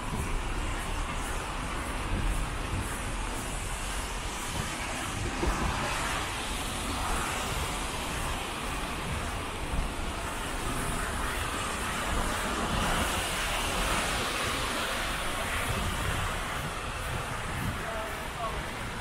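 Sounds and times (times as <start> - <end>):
heavy rain: 0.0 - 19.0
traffic on wet roads: 0.0 - 19.0
wind gusts on microphone: 0.0 - 19.0.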